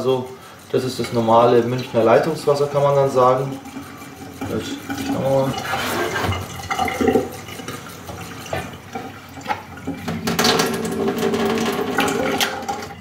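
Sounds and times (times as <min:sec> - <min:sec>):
water splashing into metal sink: 0:00.0 - 0:13.0.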